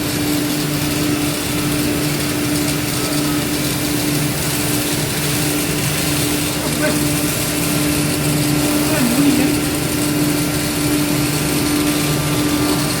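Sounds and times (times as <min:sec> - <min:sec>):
router spindle running: 0:00.0 - 0:13.0.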